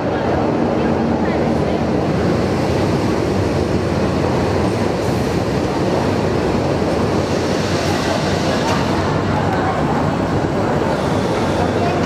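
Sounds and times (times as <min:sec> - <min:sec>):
train carriages rumbling on rails: 0:00.0 - 0:12.0.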